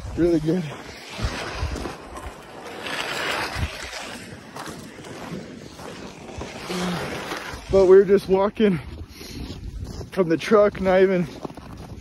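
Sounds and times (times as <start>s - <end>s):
footsteps in snow: 0.0s - 12.0s
sled dragged over snow: 0.0s - 12.0s.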